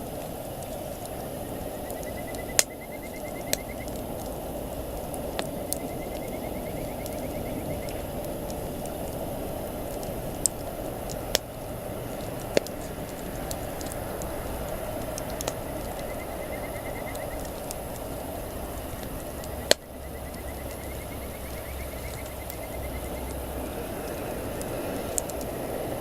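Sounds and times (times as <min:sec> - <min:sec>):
campfire crackling: 0:00.0 - 0:26.0
sharp pops of fire: 0:00.0 - 0:26.0.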